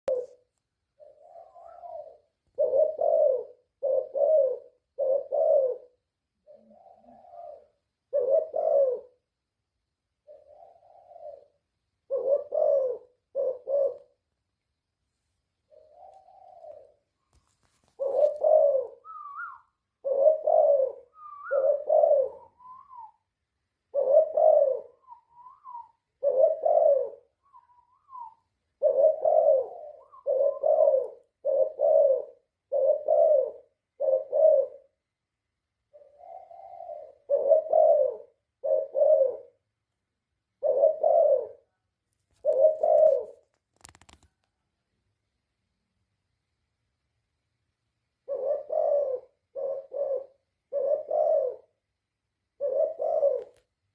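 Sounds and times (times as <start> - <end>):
dove cooing: 0.1 - 9.4, 10.1 - 14.2, 15.7 - 35.1, 35.8 - 39.8, 40.4 - 44.2, 48.2 - 53.7.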